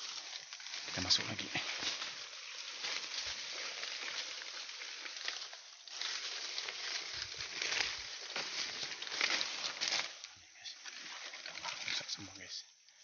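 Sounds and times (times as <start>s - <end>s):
leaves and twigs rustling underfoot: 0.0s - 13.0s.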